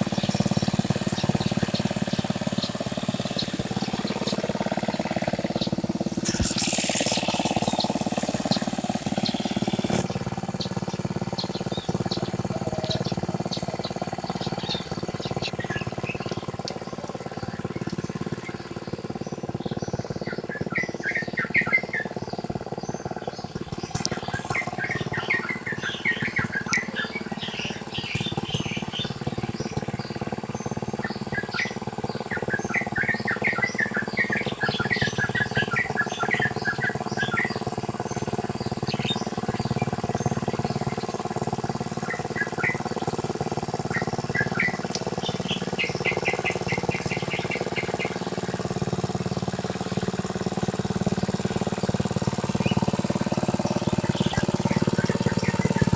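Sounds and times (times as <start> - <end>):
small birds chirping: 0.0 - 55.9
small engine running: 0.0 - 55.9.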